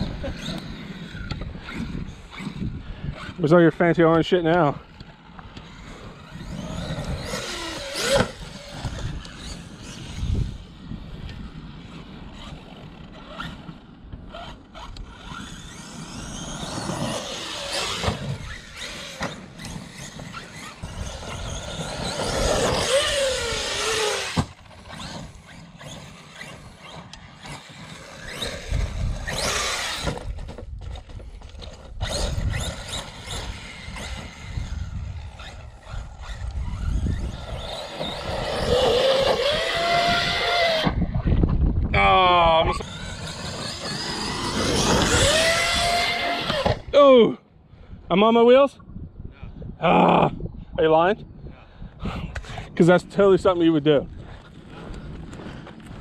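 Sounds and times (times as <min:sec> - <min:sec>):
electric rc truck motor whine: 0:00.0 - 0:47.0.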